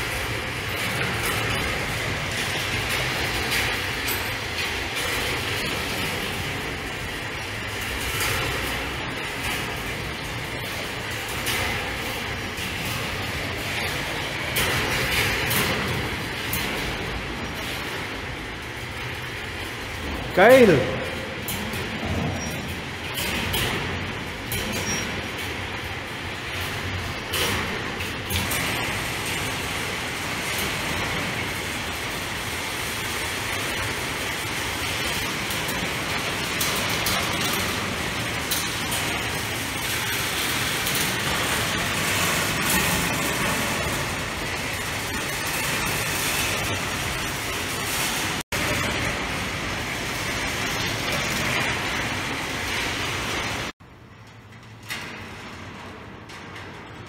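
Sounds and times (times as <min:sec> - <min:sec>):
metal balls rolling on wire rails: 0:00.0 - 0:57.0.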